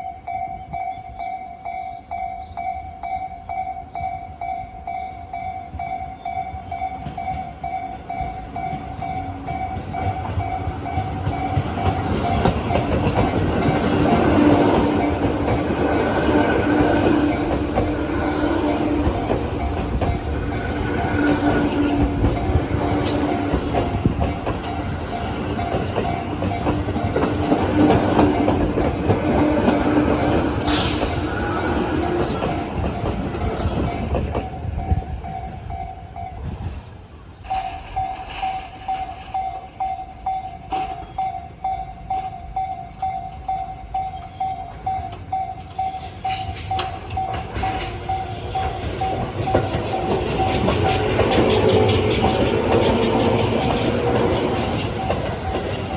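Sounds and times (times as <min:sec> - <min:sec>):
crossing warning bell dinging: 0:00.0 - 0:55.9
train wheels clattering on rails: 0:05.6 - 0:55.9.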